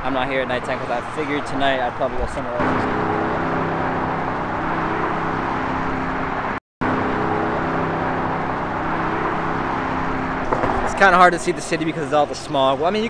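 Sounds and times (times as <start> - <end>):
freeway traffic noise: 0.0 - 13.0.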